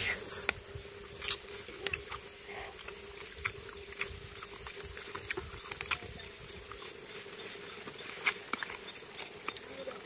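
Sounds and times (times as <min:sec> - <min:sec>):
faint steady hum: 0:00.0 - 0:10.0
eating by hand clicks and smacks: 0:01.2 - 0:10.0.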